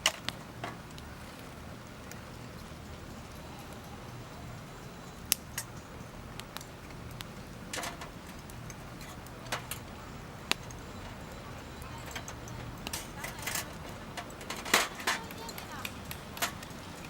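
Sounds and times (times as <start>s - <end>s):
campfire crackling: 0.0s - 17.0s
loud fire cracks: 0.0s - 17.0s.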